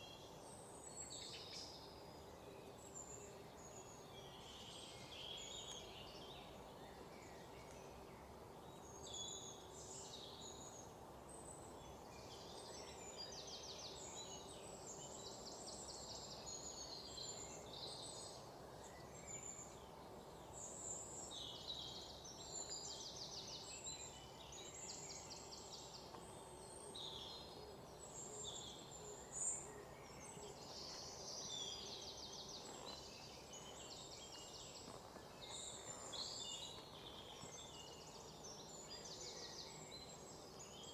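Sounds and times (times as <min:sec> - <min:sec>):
small birds chirping and trilling: 0:00.0 - 0:40.9
steady low background noise: 0:00.0 - 0:40.9.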